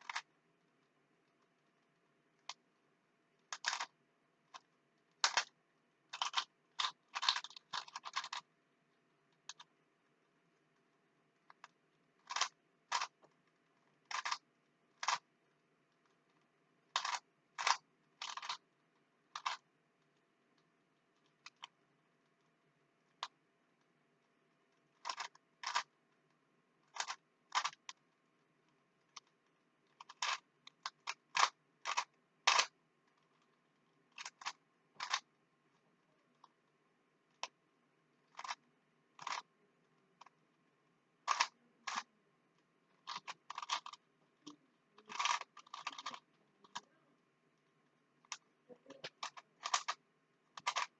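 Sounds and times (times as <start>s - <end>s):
puzzle cube plastic clicking: 0.0s - 2.7s, 3.3s - 9.8s, 10.5s - 37.6s, 38.2s - 40.5s, 41.2s - 47.0s, 47.6s - 50.9s.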